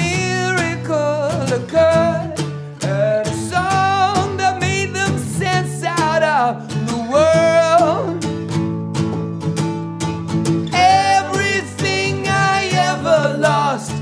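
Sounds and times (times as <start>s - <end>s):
man singing: 0.0s - 8.3s, 10.7s - 14.0s
acoustic guitar strumming: 0.0s - 14.0s.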